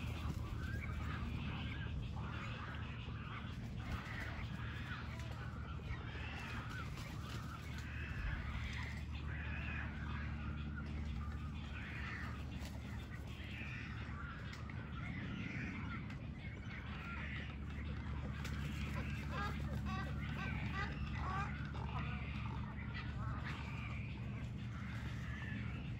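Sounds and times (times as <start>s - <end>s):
waterbirds squawking: 0.0s - 25.9s.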